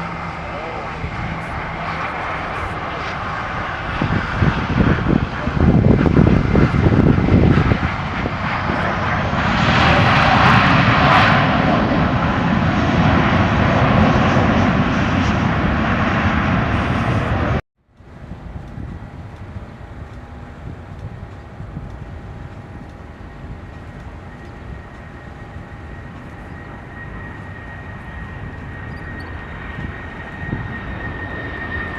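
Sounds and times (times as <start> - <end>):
jet aircraft passing: 0.0 - 31.9.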